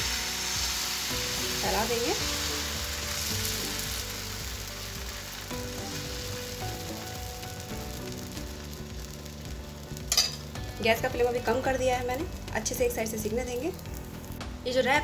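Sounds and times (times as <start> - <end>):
batter sizzling in a pan: 0.0 - 15.0.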